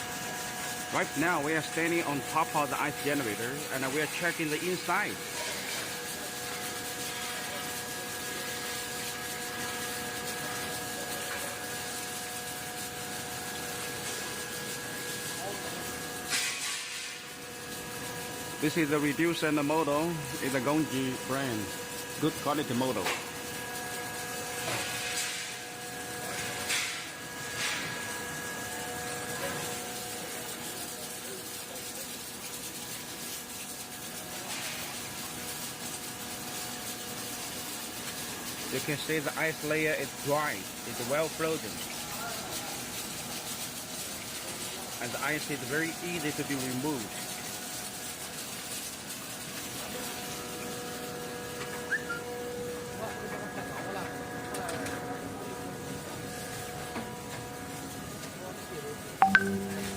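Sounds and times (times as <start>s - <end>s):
ice machine hiss and hum: 0.0s - 59.9s.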